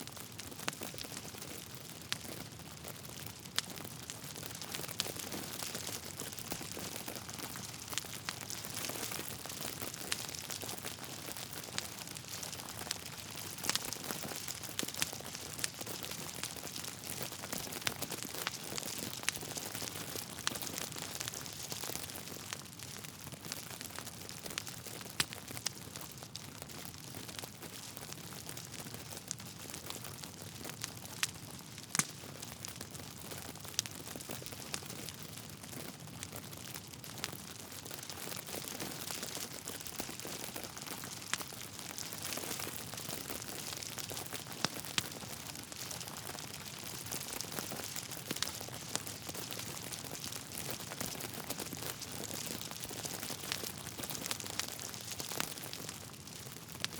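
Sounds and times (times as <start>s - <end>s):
log fire crackling: 0.0s - 56.9s.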